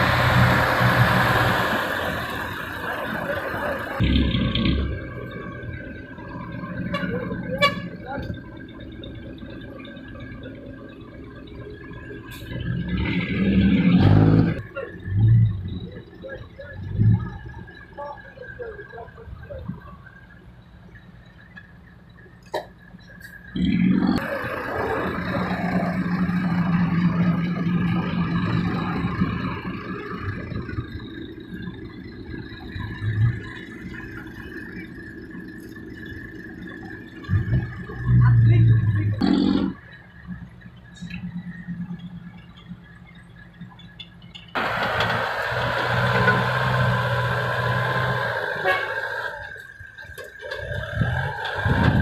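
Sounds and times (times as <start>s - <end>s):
diesel truck engine revving: 0.0s - 52.0s.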